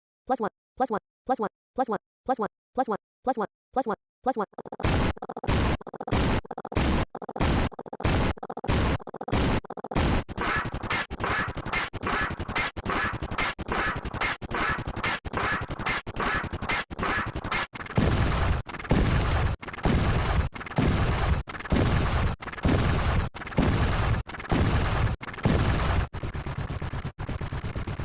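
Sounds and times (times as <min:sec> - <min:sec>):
looped sound effect: 0:00.3 - 0:28.0.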